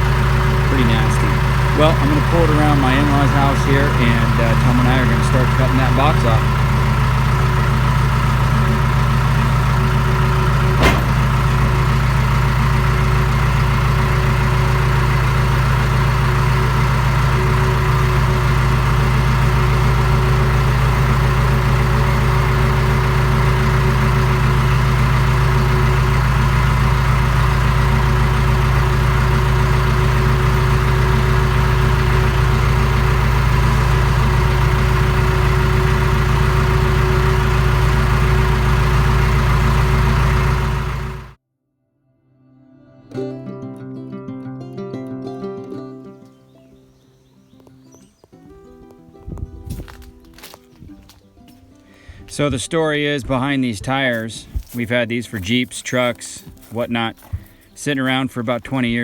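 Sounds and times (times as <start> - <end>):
tractor engine running under load: 0.0 - 41.4, 49.2 - 59.0.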